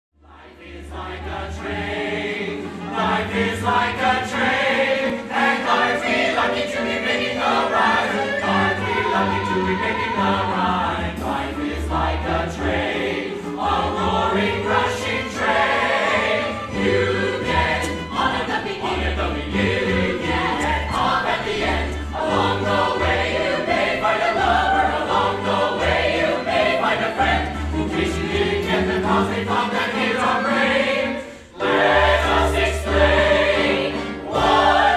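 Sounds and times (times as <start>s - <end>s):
chorus singing: 0.2s - 34.9s.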